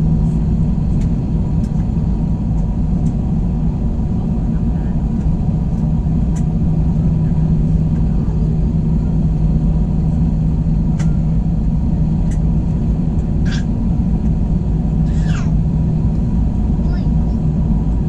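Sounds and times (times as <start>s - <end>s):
jet engine cabin rumble: 0.0s - 18.0s.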